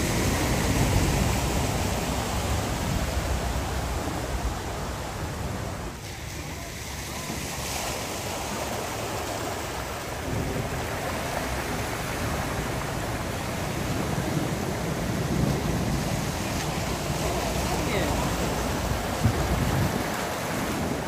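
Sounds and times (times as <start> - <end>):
cars splashing through water: 0.0 - 21.0.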